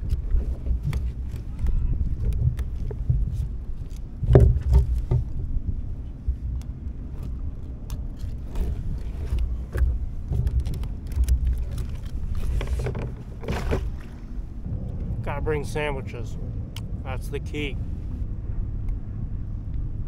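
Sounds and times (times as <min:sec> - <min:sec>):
wind and water rumble on microphone: 0:00.0 - 0:20.0.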